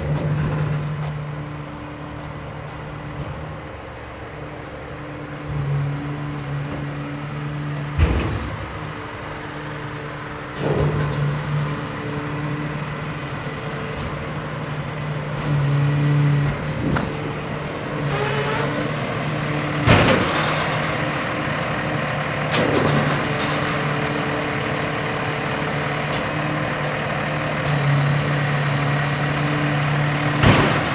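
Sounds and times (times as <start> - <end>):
diesel truck engine humming: 0.0 - 30.9.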